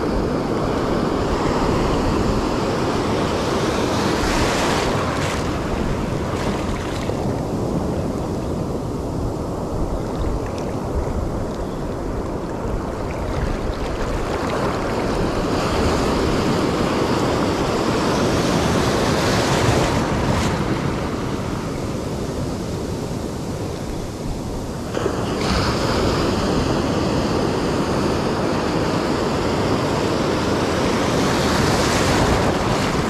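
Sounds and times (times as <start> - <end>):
ocean surf breaking: 0.0 - 33.0
wind noise on microphone: 0.0 - 33.0.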